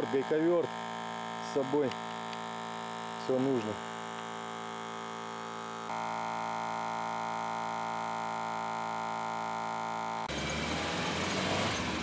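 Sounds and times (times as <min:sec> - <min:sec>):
tyre compressor humming: 0:00.0 - 0:10.4.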